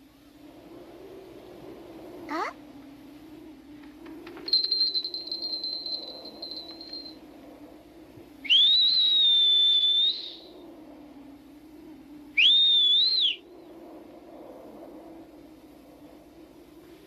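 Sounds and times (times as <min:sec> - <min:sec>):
loud rising whistles: 0:00.0 - 0:17.0.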